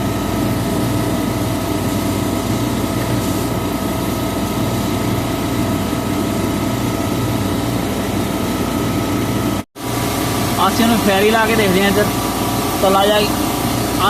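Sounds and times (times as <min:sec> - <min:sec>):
refrigeration machinery humming: 0:00.0 - 0:14.0.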